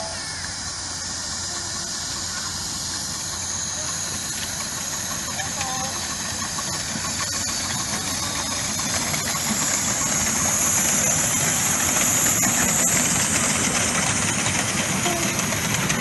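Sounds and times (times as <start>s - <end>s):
steam locomotive hissing past: 0.0s - 16.0s.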